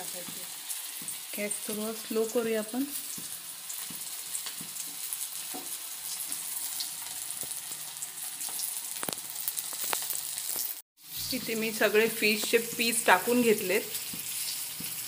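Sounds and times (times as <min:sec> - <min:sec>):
fish sizzling in hot oil: 0:00.0 - 0:15.0
oil popping: 0:02.8 - 0:15.0.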